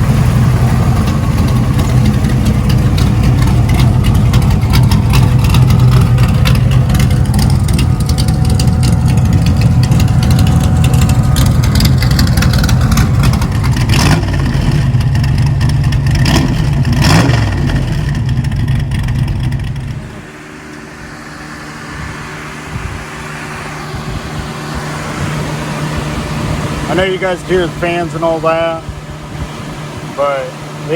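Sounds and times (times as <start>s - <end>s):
radiator fans whirring: 0.0s - 30.9s
truck engine idling and revving: 0.0s - 30.9s.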